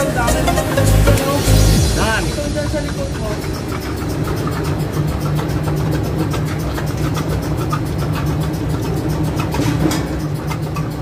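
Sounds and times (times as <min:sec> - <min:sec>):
engine-room machinery hum: 0:00.0 - 0:11.0.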